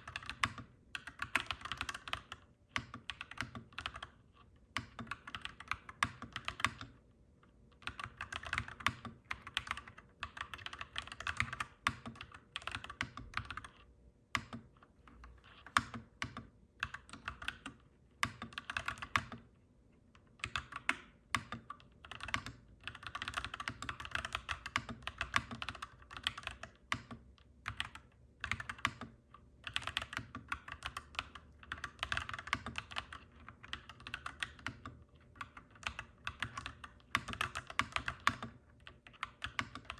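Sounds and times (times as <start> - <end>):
mechanical keyboard typing: 0.0 - 4.2, 4.8 - 7.0, 7.8 - 19.5, 20.4 - 39.9.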